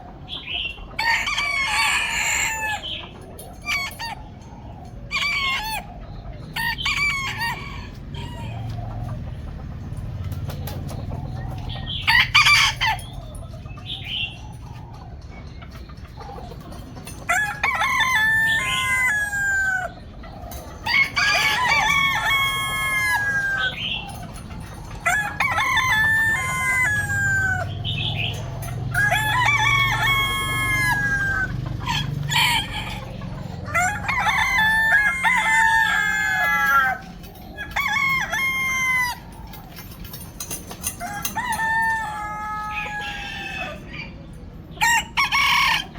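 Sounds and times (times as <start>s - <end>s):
roosters crowing: 0.0s - 45.9s.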